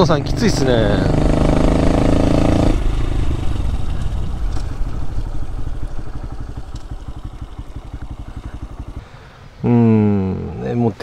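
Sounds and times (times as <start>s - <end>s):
motorcycle engine putting at low revs: 0.0s - 10.4s.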